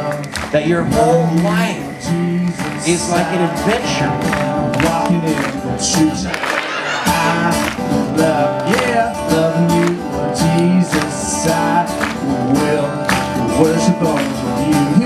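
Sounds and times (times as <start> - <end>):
acoustic guitar background music: 0.0 - 15.0.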